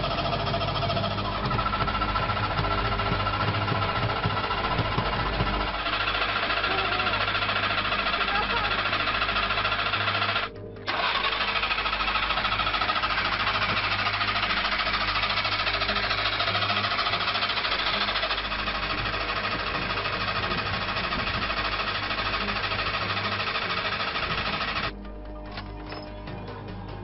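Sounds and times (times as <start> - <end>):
two-stroke engine running: 0.0 - 27.0.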